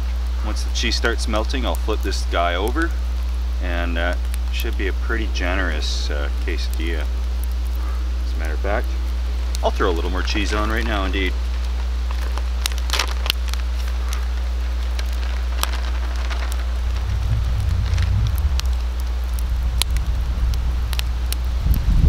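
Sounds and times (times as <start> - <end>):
campfire crackling and popping: 0.0 - 22.0
low rumbling: 0.0 - 22.0
steady low hum: 0.0 - 22.0.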